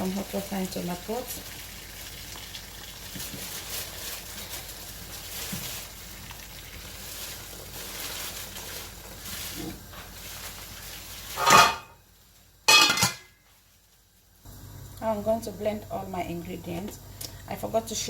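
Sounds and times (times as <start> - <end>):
meat sizzling and bubbling in pot: 0.0 - 17.2.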